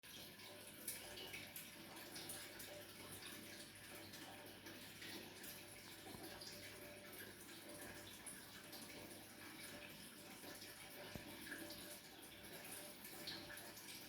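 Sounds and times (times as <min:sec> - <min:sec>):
water trickling into aquarium: 0:00.0 - 0:14.0
water drips: 0:00.1 - 0:14.0.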